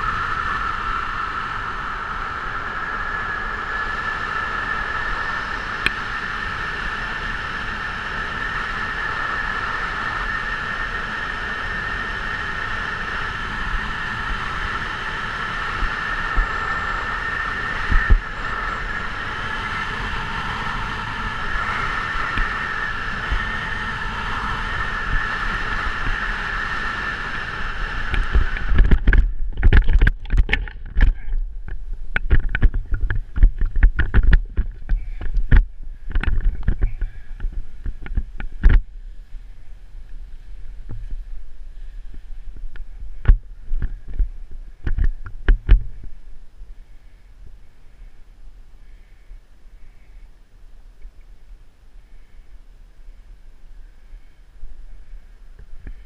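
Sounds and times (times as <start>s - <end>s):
rushing wind whistling: 0.0s - 50.1s.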